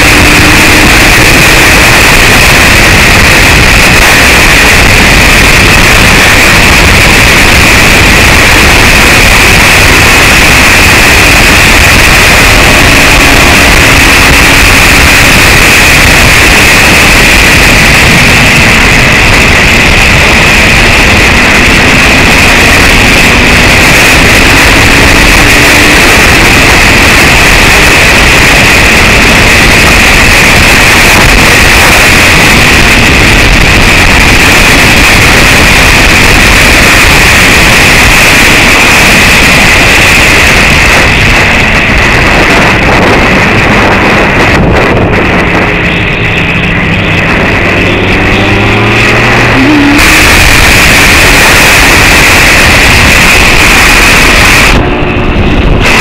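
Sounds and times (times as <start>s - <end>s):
loud wind roar: 0.0s - 56.0s.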